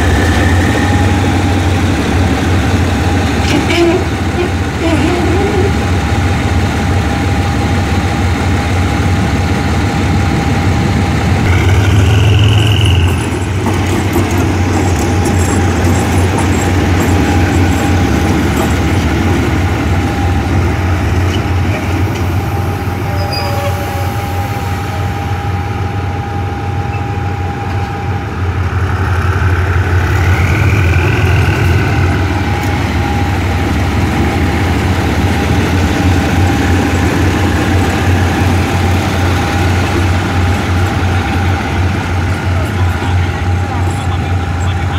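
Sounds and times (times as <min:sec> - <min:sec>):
locomotive engine drone: 0:00.0 - 0:44.9
locomotive whine: 0:00.0 - 0:44.9.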